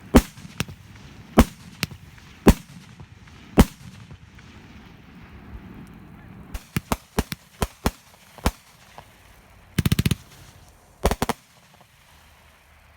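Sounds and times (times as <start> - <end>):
fireworks banging and crackling: 0.0 - 12.9.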